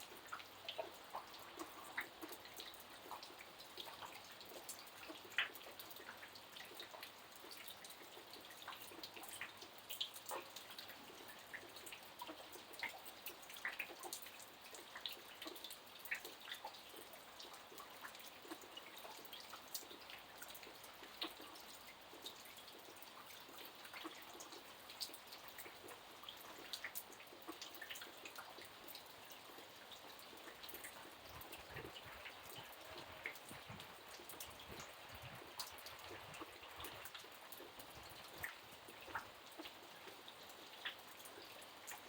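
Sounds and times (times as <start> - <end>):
quiet rain falling: 0.0 - 42.0.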